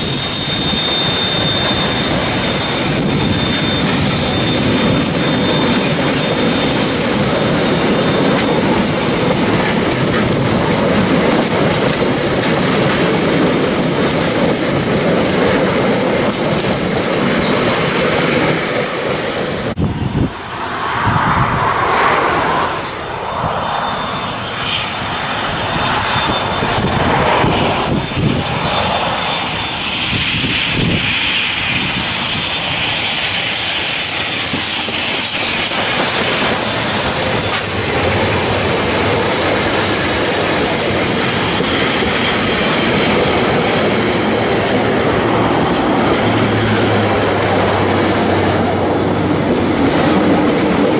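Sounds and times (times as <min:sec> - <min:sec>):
train wheels squealing: 0:00.0 - 0:19.8, 0:20.8 - 0:50.9
train carriages rolling: 0:00.0 - 0:21.0, 0:21.6 - 0:50.9
steam locomotive pulsing: 0:00.0 - 0:50.9.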